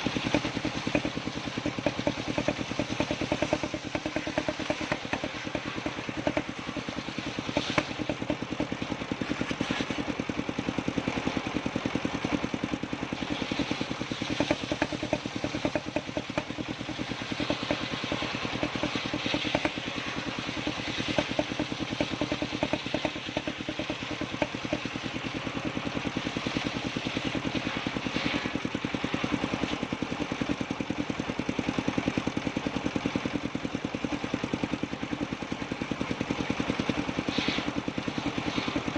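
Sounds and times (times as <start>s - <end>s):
engine pulsing: 0.0s - 38.9s.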